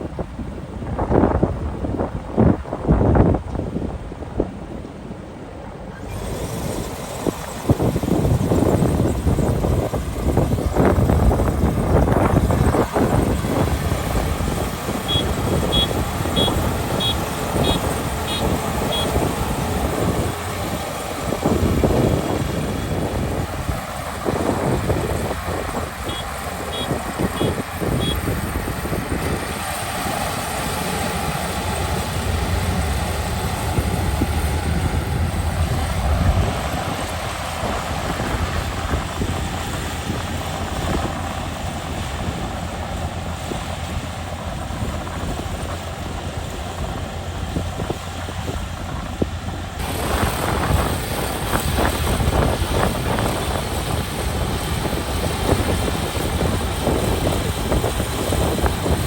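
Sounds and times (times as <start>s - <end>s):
combine harvester running: 0.0s - 59.0s
wind on microphone: 0.0s - 59.0s.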